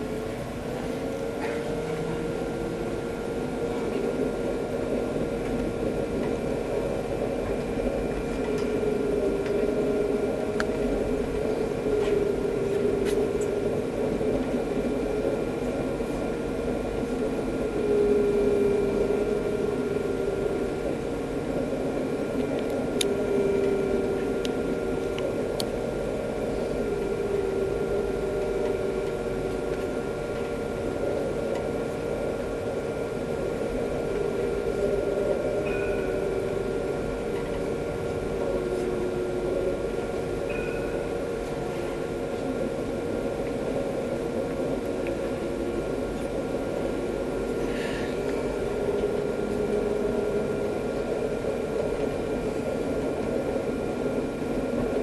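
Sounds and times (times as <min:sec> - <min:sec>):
tram running rumble: 0:00.0 - 0:55.0
constant electrical tones: 0:01.4 - 0:55.0.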